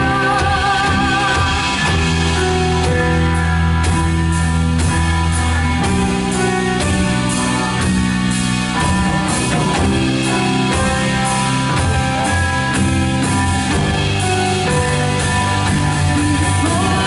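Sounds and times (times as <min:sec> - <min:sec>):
drum kit steady beat: 0:00.0 - 0:17.0
guitars: 0:00.0 - 0:17.0.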